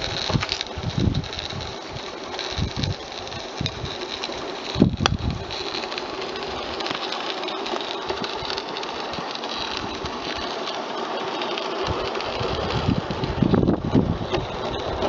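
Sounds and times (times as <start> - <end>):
steam locomotive hissing and rattling: 0.0 - 15.0.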